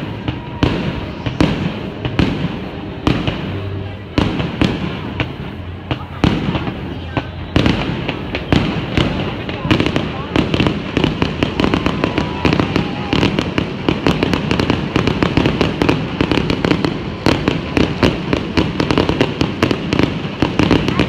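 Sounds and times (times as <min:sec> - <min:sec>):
dense firework crackle: 0:00.0 - 0:21.0.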